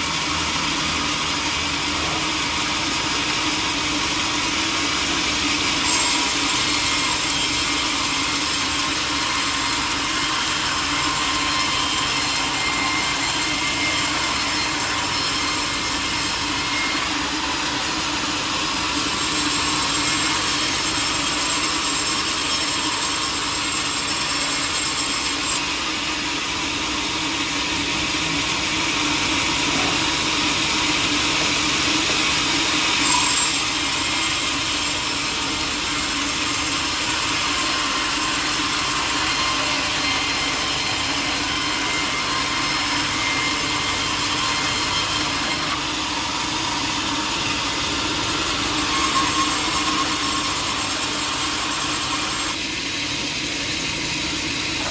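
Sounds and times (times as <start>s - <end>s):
sawmill blade cutting log: 0.0s - 54.9s.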